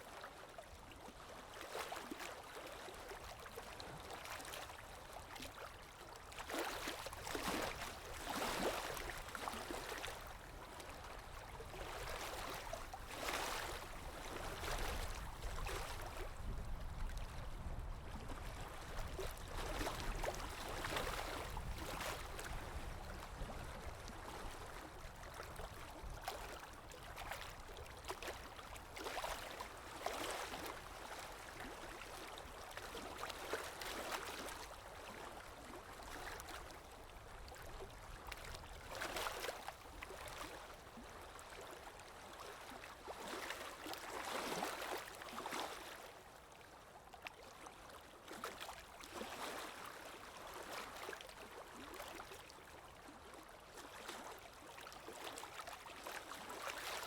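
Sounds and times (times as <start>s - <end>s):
water lapping: 0.8s - 57.0s.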